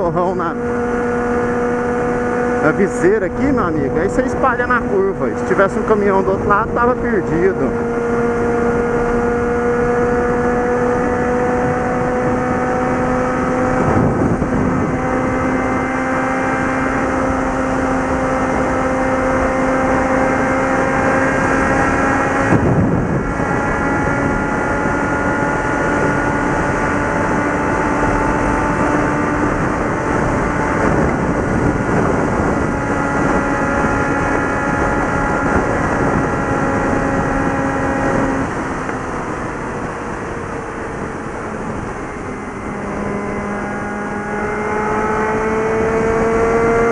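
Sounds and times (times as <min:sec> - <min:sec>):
motorcycle engine at highway speed: 0:00.0 - 0:46.9
steady wind rush: 0:00.0 - 0:46.9.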